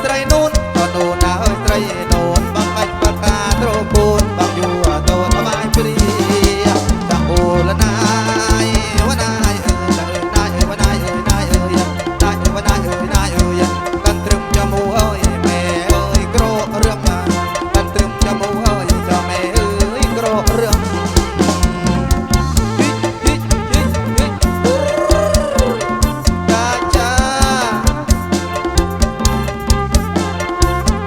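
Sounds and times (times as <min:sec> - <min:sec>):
band playing through loudspeakers: 0:00.0 - 0:31.0
steady drum beat: 0:00.0 - 0:31.0.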